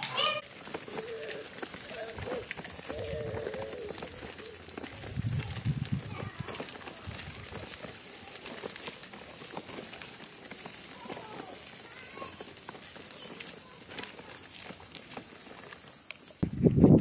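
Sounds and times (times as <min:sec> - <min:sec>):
stroller wheels on gravel: 0:00.2 - 0:17.0
steady high hiss: 0:00.3 - 0:16.4.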